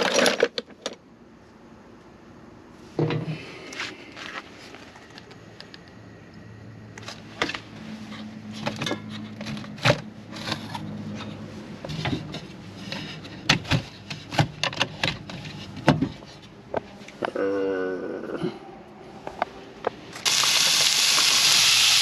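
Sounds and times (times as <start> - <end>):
low steady hum: 0.0 - 20.4.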